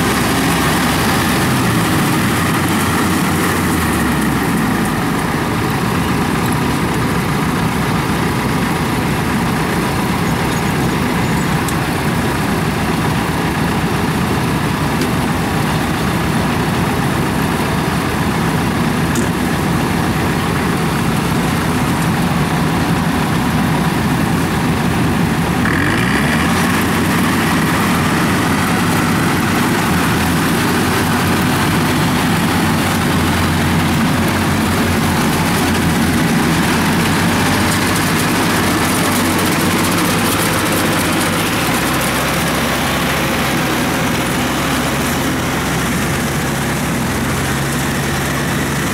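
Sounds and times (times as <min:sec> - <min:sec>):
harvester engines humming: 0:00.0 - 0:48.9
high engine whine: 0:00.0 - 0:48.9.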